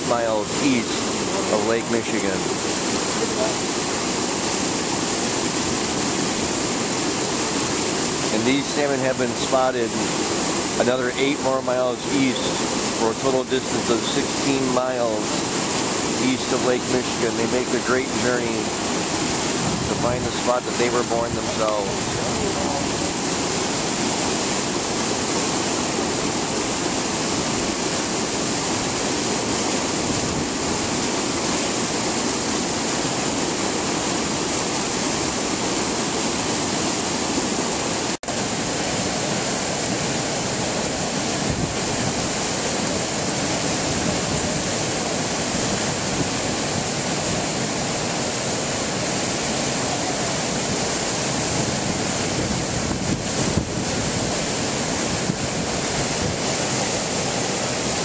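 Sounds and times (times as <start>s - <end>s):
river water rushing over weir: 0.0s - 58.0s.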